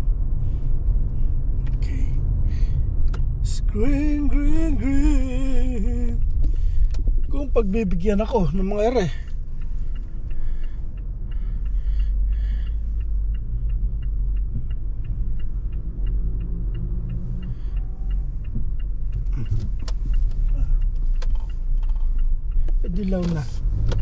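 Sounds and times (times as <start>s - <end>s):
engine and road rumble: 0.0s - 24.0s
turn signal ticking: 0.0s - 24.0s.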